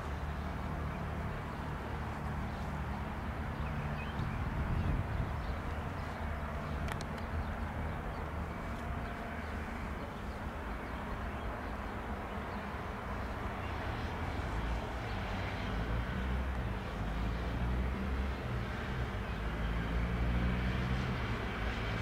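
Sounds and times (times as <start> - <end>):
distant jet engine rumble: 0.0 - 20.0.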